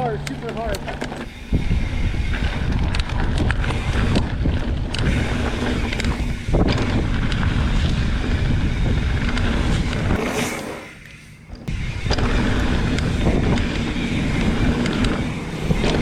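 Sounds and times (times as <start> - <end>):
bike clicks and knocks: 0.0 - 16.0
wind buffeting microphone: 0.0 - 16.0.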